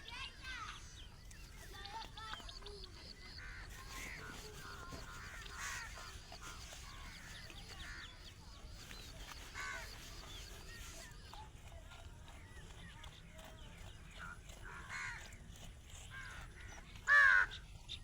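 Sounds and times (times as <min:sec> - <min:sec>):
varied bird calls: 0:00.1 - 0:11.4, 0:12.4 - 0:18.0.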